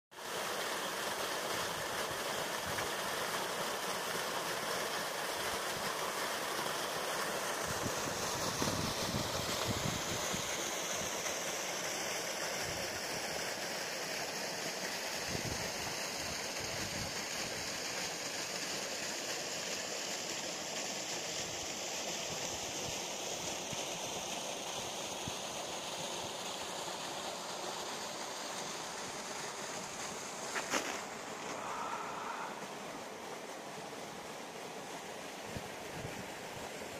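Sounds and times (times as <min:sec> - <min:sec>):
small waterfall rushing: 0:00.1 - 0:36.9.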